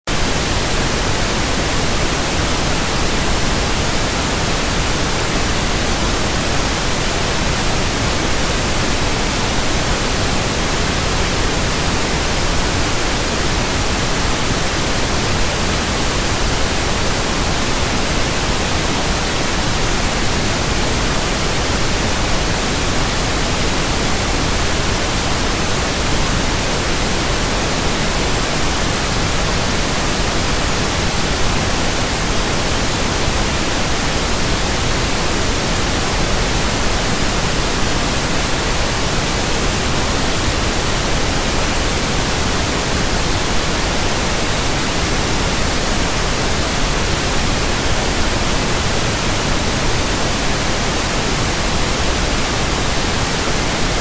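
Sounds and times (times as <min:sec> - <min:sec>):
pink noise hiss: 0:00.1 - 0:54.0.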